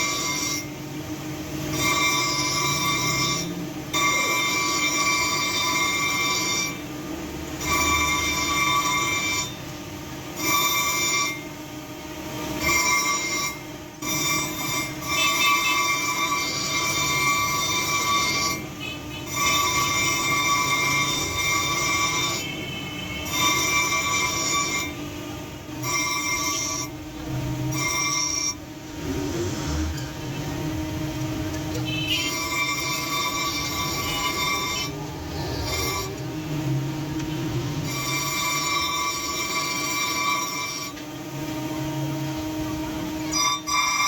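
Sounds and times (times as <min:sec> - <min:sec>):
high-pitched machine squealing: 0:00.0 - 0:44.0.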